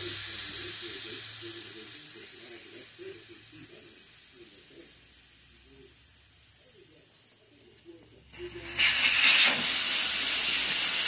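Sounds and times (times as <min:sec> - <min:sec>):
air hissing from tire valve: 0:00.0 - 0:11.0.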